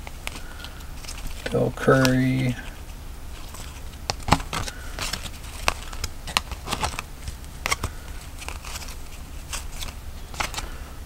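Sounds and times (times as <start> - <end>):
trading cards flipped by hand: 0.0 - 10.8.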